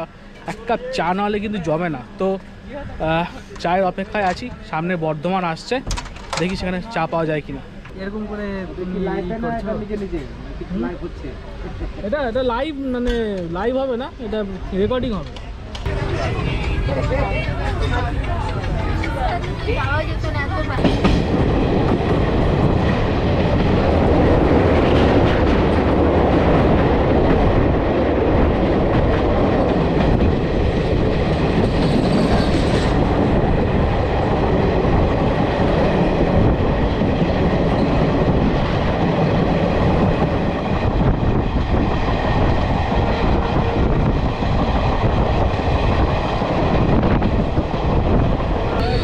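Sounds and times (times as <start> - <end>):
train rumbling on rails: 0.0 - 49.0.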